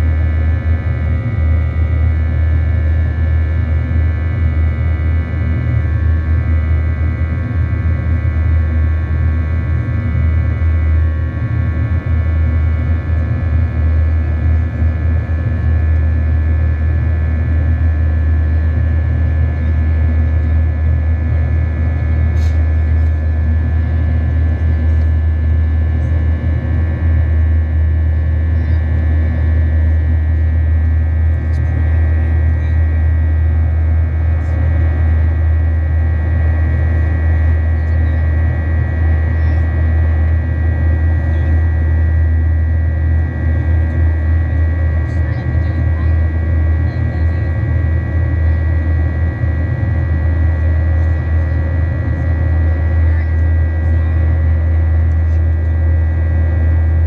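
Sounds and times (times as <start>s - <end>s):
high engine fan whine: 0.0s - 57.0s
low engine and airflow rumble: 0.0s - 57.0s.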